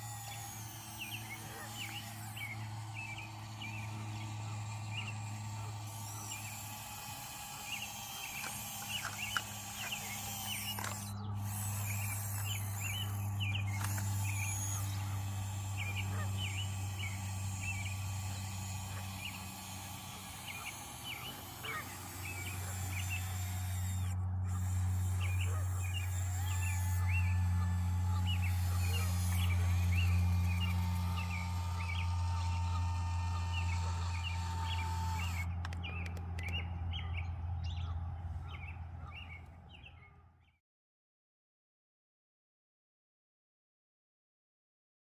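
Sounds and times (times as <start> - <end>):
electric motor humming: 0.0 - 39.8
birds chirping: 0.0 - 40.6.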